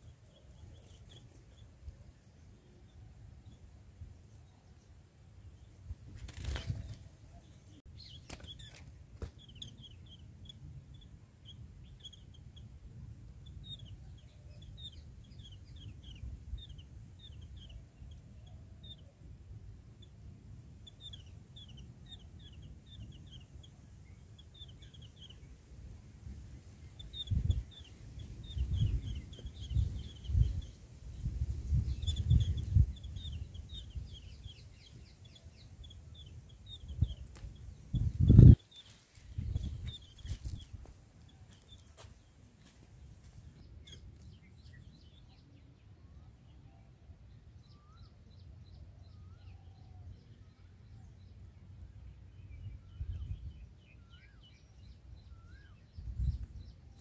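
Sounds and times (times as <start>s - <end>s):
birds chirping: 0.0s - 19.3s, 19.9s - 57.0s.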